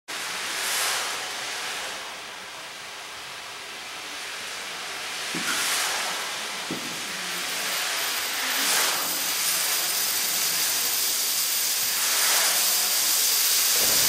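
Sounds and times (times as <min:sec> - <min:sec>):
percussion soft hiss: 0:00.2 - 0:14.0.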